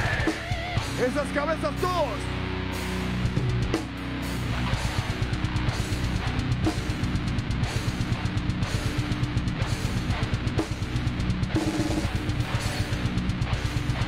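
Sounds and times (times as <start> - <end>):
electric guitars: 0.0 - 14.0
fast driving drums: 0.0 - 14.0.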